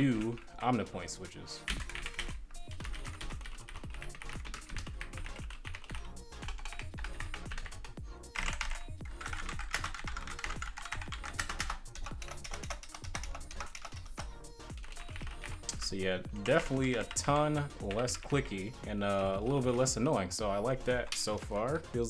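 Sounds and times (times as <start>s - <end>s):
fast mechanical keyboard typing: 0.0s - 1.1s, 1.7s - 18.7s
background music: 0.0s - 22.0s.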